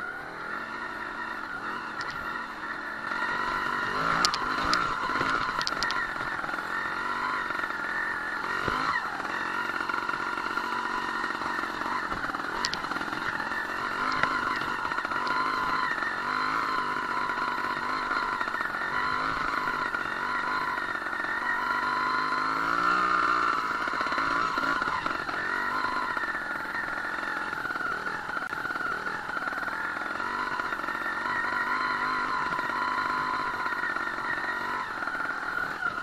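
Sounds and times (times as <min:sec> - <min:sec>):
motorcycle two-stroke engine: 0:00.0 - 0:36.0.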